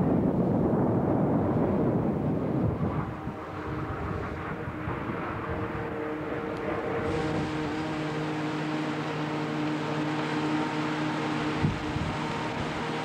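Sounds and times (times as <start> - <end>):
harvester engine drone: 0.0 - 13.0
steady low hum: 0.0 - 13.0.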